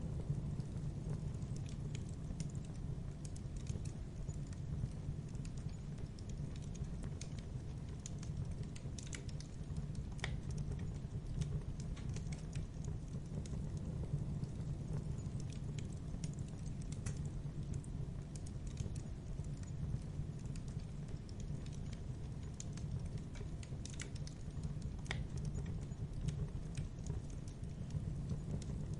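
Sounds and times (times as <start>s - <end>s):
fire crackling and popping: 0.0s - 28.9s
fire rumbling: 0.0s - 28.9s.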